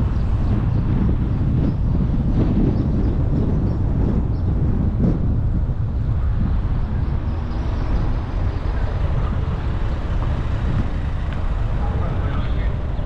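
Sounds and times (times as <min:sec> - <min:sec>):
car driving on motorway: 0:00.0 - 0:13.0.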